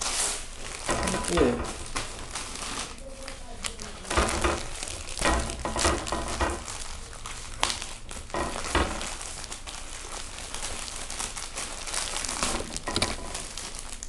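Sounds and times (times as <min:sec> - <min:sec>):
plastic mailer bag crinkling: 0:00.0 - 0:14.0.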